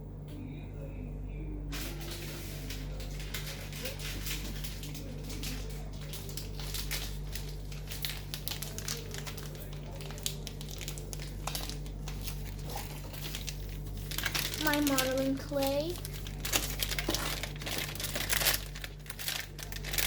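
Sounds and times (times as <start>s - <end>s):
low electrical hum: 0.0s - 20.0s
packaging crinkling and rustling: 1.7s - 20.0s.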